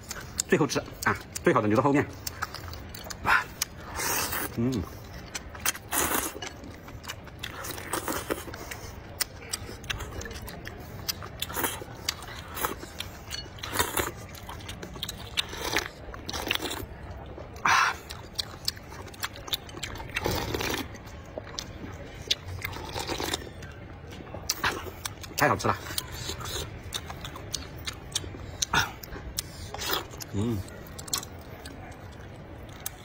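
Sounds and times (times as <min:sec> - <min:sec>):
wet chewing: 0:00.0 - 0:33.0.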